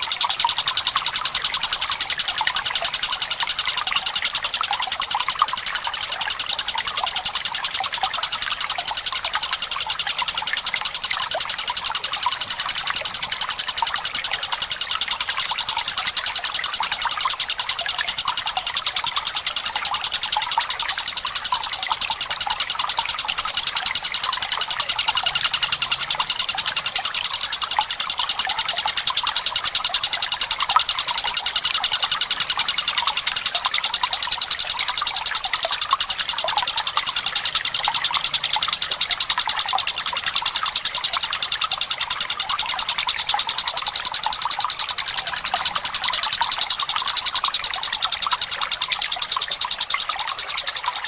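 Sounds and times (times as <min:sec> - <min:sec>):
bird calling in rolling trill: 0:00.0 - 0:51.0
trickle of running water: 0:00.0 - 0:51.0.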